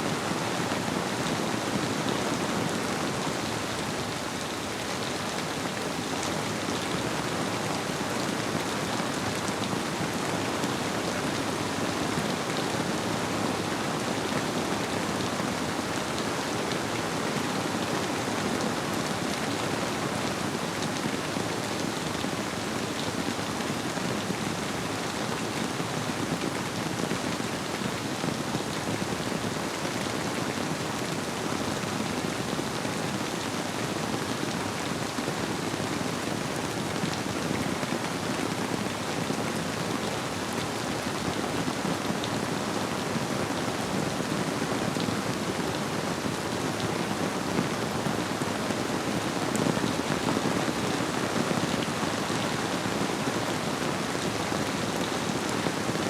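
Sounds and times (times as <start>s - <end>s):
rain falling: 0.1s - 56.0s.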